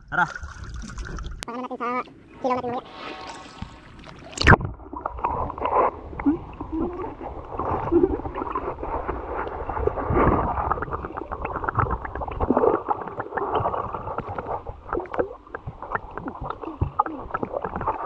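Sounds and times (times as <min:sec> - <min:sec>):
water sloshing underwater: 0:00.0 - 0:18.0.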